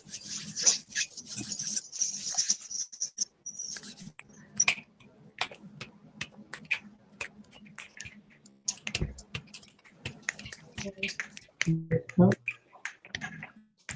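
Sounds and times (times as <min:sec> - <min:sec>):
palms rubbing together: 0:00.0 - 0:11.7.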